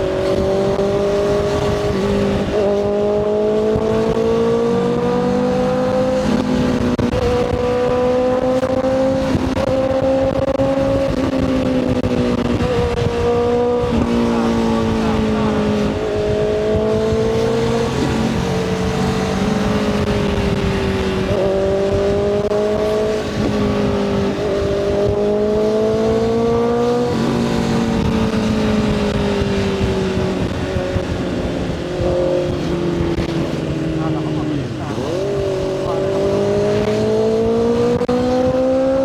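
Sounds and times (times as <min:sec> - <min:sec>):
motorcycle engine shifting gears: 0:00.0 - 0:39.0
wind and road noise: 0:00.0 - 0:39.0.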